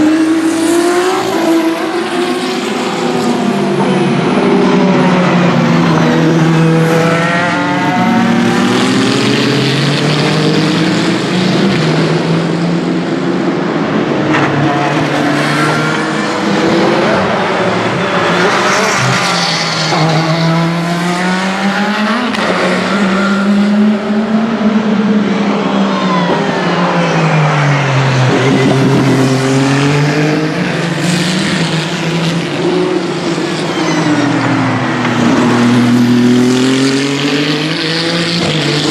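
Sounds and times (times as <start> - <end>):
race cars passing at speed: 0.0 - 38.9.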